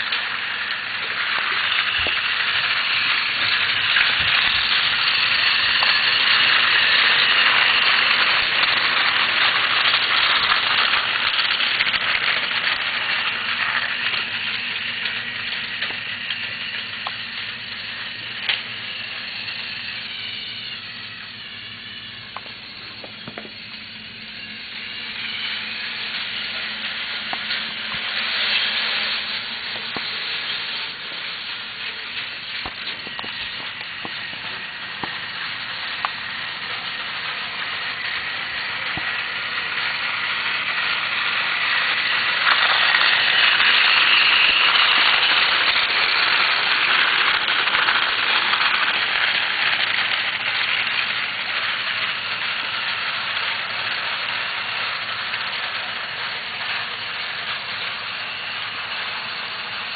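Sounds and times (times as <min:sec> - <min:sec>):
toy trains rattling on plastic track: 0:00.0 - 0:59.9.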